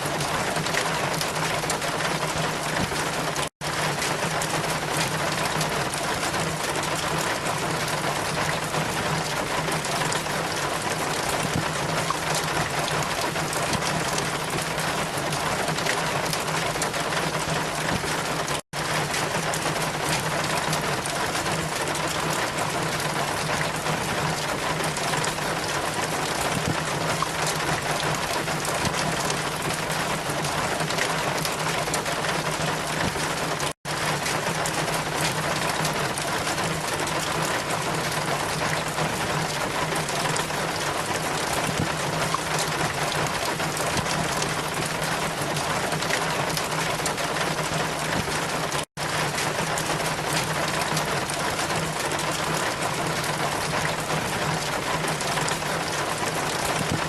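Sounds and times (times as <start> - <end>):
steady water noise: 0.0 - 57.0.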